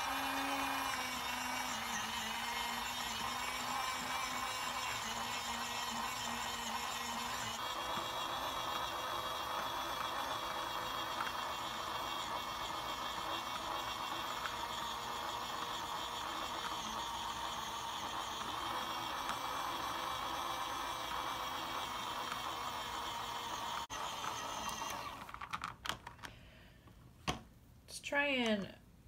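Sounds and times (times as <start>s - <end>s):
small electric motor running: 0.0s - 25.4s.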